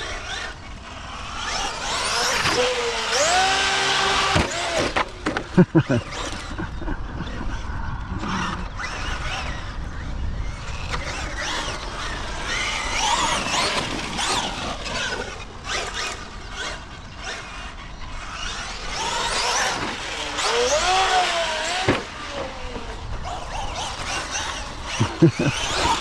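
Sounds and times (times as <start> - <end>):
rc truck motor whining: 0.0 - 26.0.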